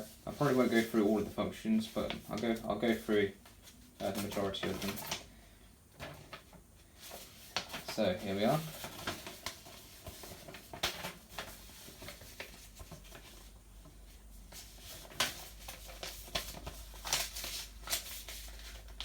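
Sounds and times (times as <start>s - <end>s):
paper rustling and crinkling: 0.0s - 19.0s.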